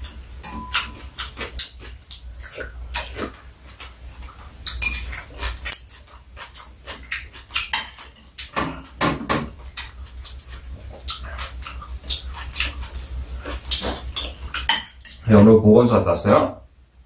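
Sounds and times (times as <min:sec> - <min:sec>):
chewing: 0:00.0 - 0:15.2.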